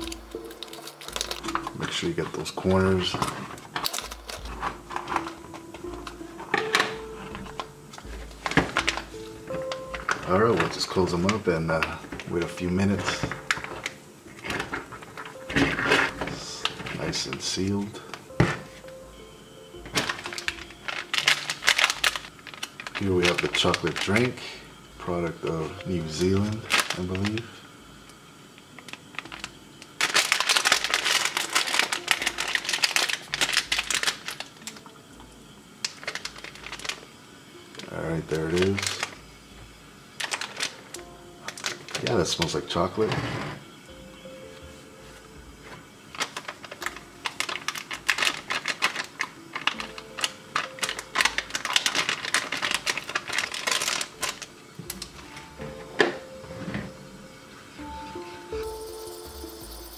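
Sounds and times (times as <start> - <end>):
packaging crinkling and tearing: 0.0 - 18.9, 19.8 - 27.6, 28.7 - 35.0, 35.8 - 37.1, 37.7 - 39.2, 40.2 - 43.1, 46.1 - 55.4.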